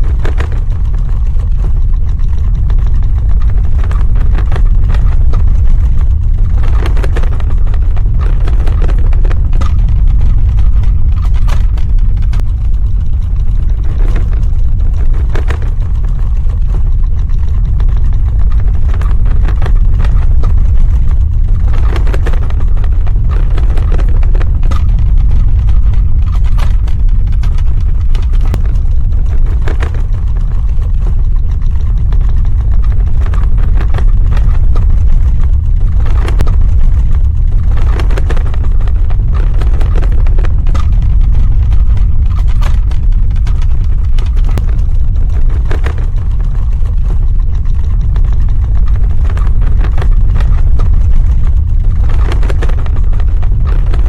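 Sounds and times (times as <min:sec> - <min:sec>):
crackles and rattles: 0:00.0 - 0:54.0
deep earthquake rumble: 0:00.0 - 0:54.0.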